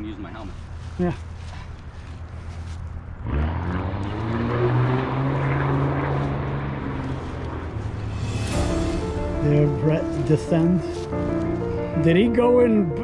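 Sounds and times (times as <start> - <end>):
vehicle engine drone: 0.1 - 13.0.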